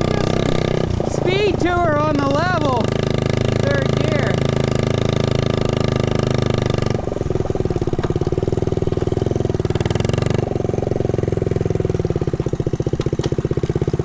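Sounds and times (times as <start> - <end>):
small motorbike engine idling: 0.0 - 14.0.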